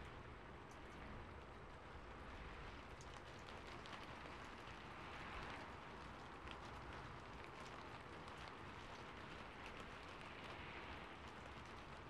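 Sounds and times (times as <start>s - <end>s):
rain pattering on a roof: 0.0s - 12.0s.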